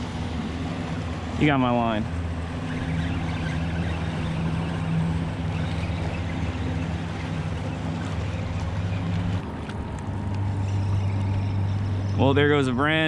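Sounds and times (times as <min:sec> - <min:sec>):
motorboat engine droning: 0:00.0 - 0:13.0
water noise: 0:00.0 - 0:13.0
wind: 0:00.0 - 0:13.0.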